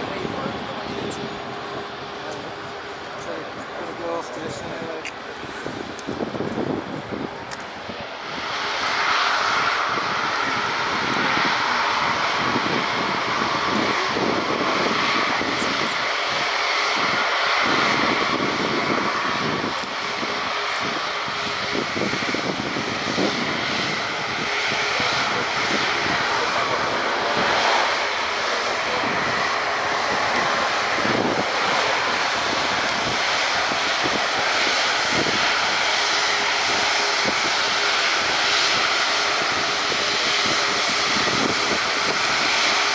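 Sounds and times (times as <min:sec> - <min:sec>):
jet engines whining: 0:00.0 - 0:42.9.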